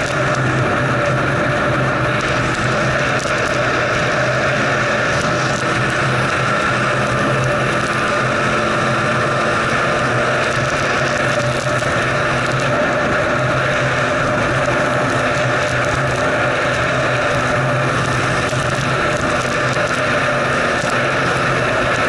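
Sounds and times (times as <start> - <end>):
snowmobile engine droning: 0.0 - 22.0.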